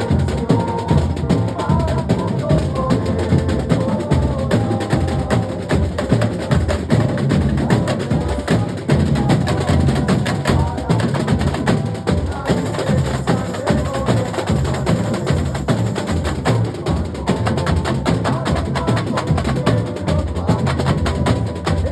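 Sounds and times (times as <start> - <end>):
sharp clicking drum strokes: 0.0 - 21.9.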